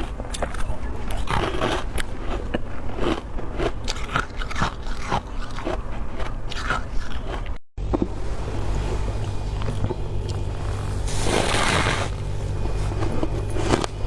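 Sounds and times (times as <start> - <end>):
crunchy chewing of frost: 0.0 - 7.6, 8.7 - 14.0.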